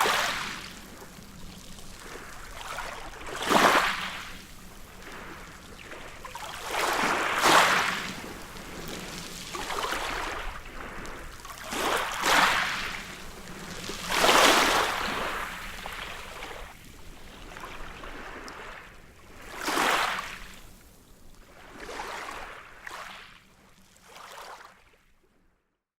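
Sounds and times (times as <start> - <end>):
sea waves breaking on beach: 0.0 - 23.4.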